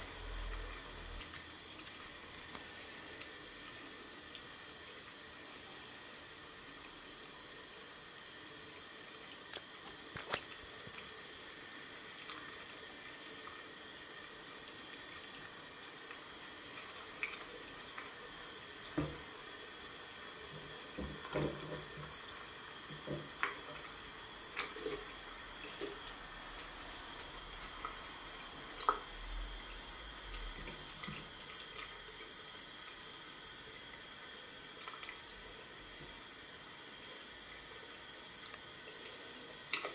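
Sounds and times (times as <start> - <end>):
tap water running into basin: 0.0 - 39.9.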